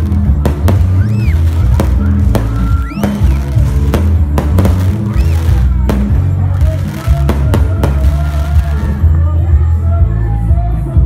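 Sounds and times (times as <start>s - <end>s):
fireworks banging: 0.0s - 9.0s
music with heavy bass: 0.0s - 11.0s.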